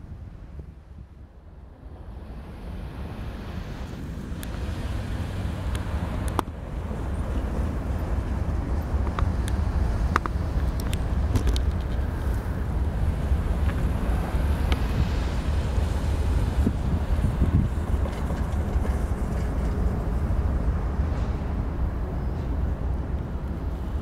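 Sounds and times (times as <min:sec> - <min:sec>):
diesel locomotive rumbling: 0:00.0 - 0:24.0.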